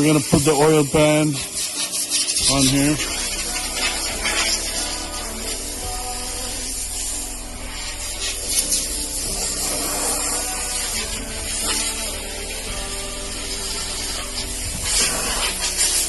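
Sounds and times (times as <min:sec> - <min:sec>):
background music with sustained chords: 0:00.0 - 0:16.0
steady hiss: 0:00.0 - 0:16.0.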